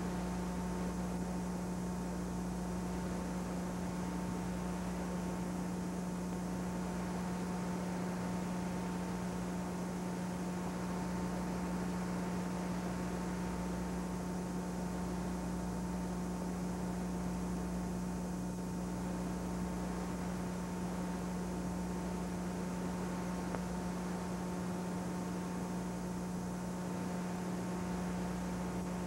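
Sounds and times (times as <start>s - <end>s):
constant hiss: 0.0s - 29.0s
electrical hum: 0.0s - 29.0s.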